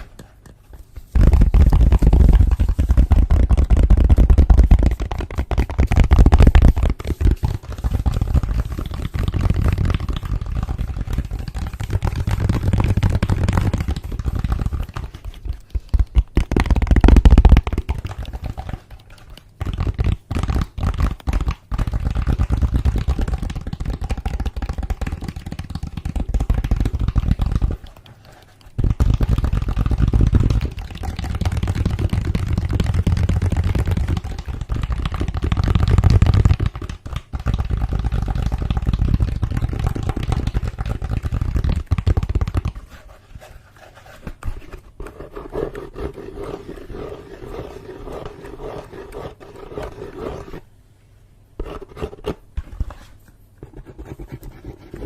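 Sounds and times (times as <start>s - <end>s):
fingertip tapping and scratching: 0.0s - 50.6s, 51.6s - 55.0s.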